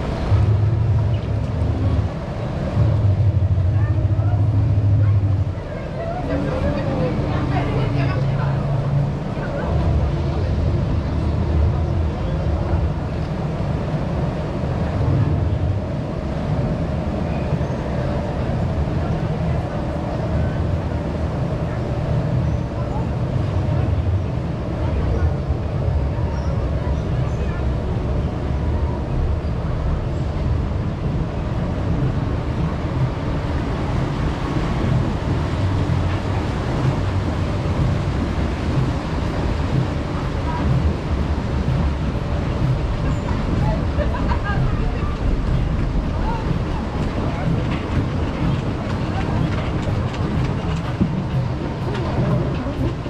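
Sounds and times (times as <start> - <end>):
churning water and machinery rumble: 0.0 - 53.0.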